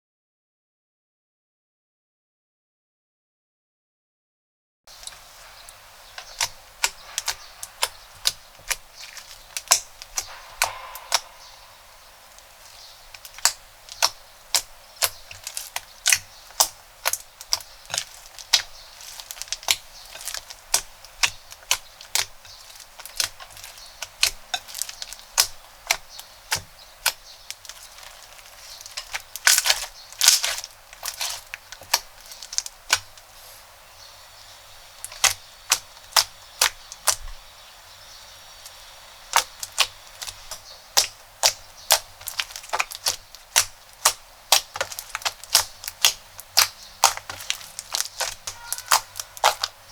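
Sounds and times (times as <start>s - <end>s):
crunchy slime crackling and popping: 4.9s - 33.6s, 34.3s - 49.9s.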